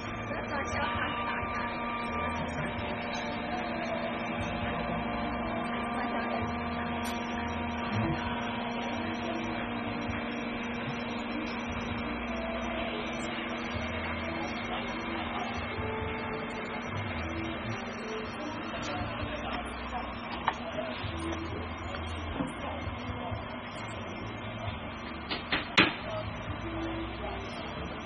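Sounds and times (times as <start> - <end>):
hot air blower whirring: 0.0 - 28.0
low electrical hum: 0.0 - 28.0.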